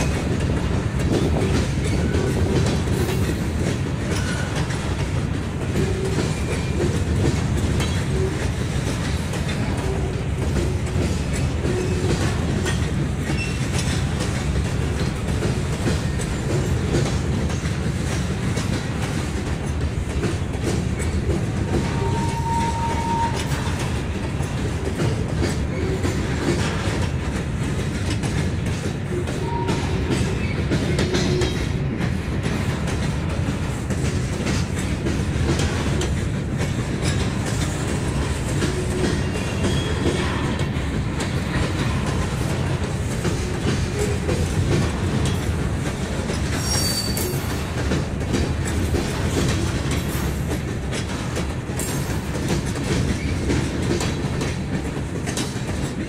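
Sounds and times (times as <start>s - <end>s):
freight cars rumbling: 0.0s - 56.0s
wheels clicking over rail joints: 0.0s - 56.0s.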